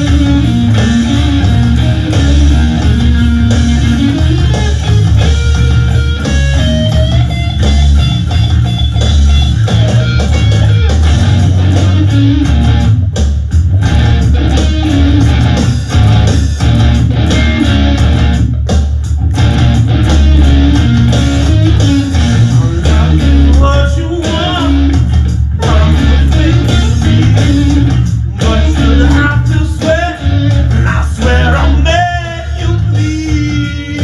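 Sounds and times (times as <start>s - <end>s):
bass guitar: 0.0s - 34.0s
electric guitar strumming: 0.0s - 34.0s.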